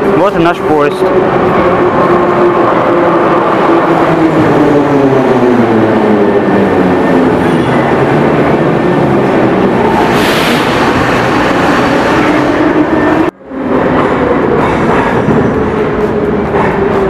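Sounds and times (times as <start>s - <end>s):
metro train slowing to a stop: 0.0s - 17.0s.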